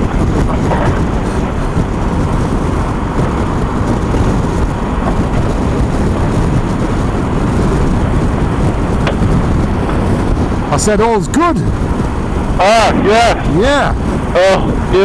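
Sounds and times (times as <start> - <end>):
motorcycle engine drone: 0.0 - 15.0
wind rush: 0.0 - 15.0.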